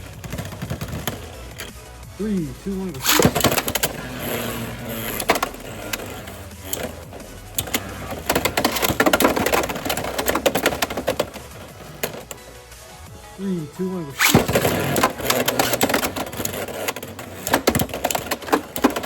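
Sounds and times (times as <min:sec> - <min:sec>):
spinning top launcher rip: 0:00.0 - 0:12.4, 0:14.1 - 0:19.0
spinning tops clattering: 0:00.0 - 0:13.0, 0:14.2 - 0:19.0
spinning tops whirring: 0:00.0 - 0:13.3, 0:14.0 - 0:19.0.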